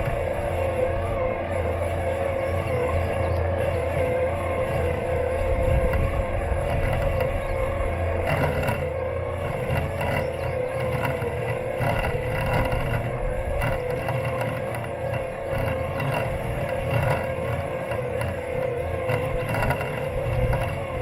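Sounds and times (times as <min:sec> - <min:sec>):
lawn mower electric motor whine: 0:00.0 - 0:21.0.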